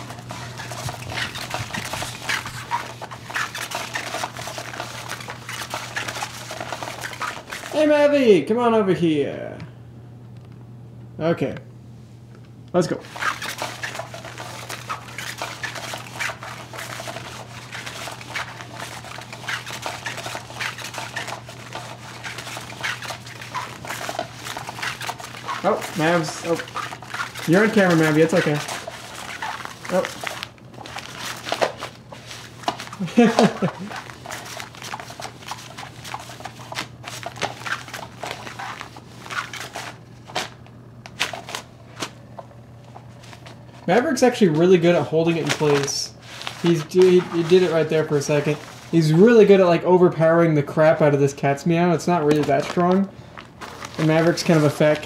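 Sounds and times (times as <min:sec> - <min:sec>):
crackly rustling and scratching: 0:00.0 - 0:08.0, 0:12.9 - 0:55.0.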